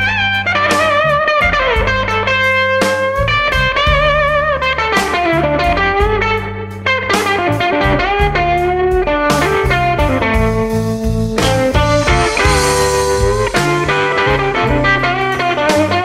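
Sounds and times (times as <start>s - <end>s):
steady bass line: 0.0s - 2.4s, 3.2s - 16.0s
lead electric guitar bends: 0.0s - 16.0s.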